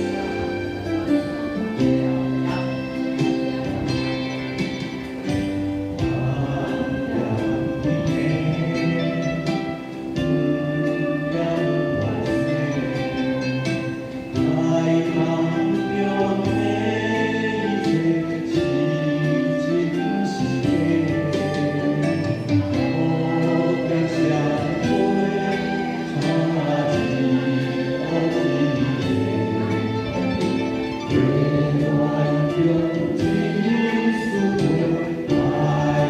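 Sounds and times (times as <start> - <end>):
choir singing sustained notes: 0.0 - 36.0
instrumental accompaniment: 0.0 - 36.0.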